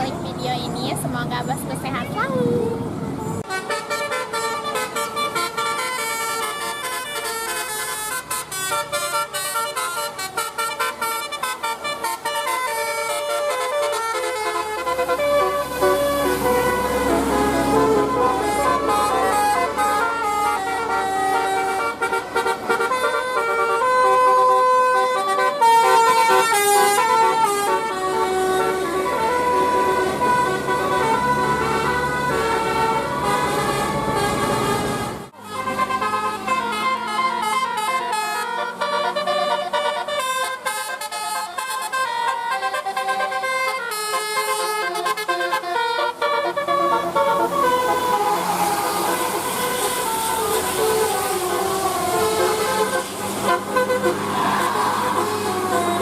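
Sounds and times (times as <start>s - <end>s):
musical air horns playing tunes: 3.4s - 56.0s.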